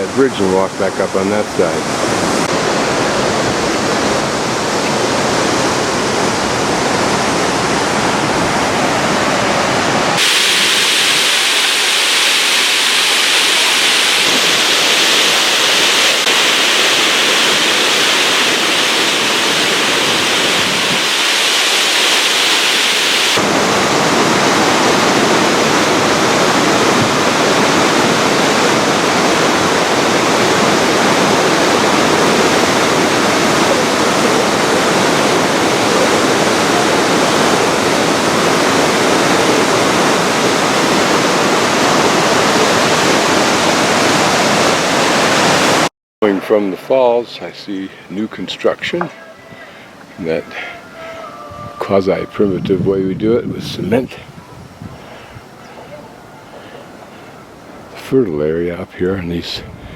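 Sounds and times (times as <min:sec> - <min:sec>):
waterfall roaring: 0:00.0 - 0:52.9, 0:53.8 - 0:58.0.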